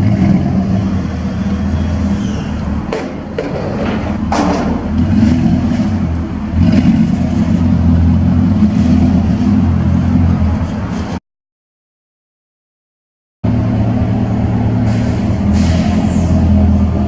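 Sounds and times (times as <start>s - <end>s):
truck engine droning: 0.0s - 11.2s, 13.4s - 17.0s.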